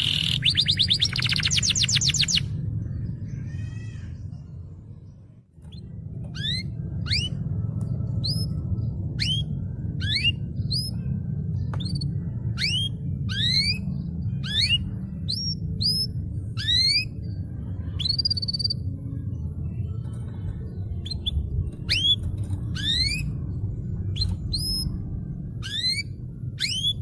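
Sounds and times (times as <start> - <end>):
canary singing: 0.0 - 4.4, 5.6 - 19.1, 20.1 - 27.0
steady low hum: 0.0 - 27.0.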